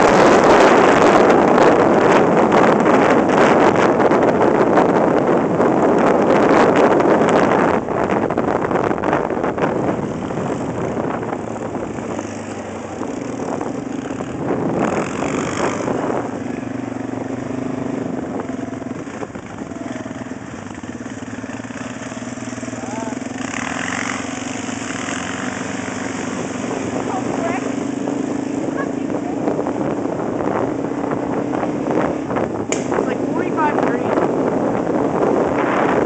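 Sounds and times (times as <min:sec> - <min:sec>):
atv engine droning: 0:00.0 - 0:36.0
wind rushing over microphone: 0:00.0 - 0:36.0.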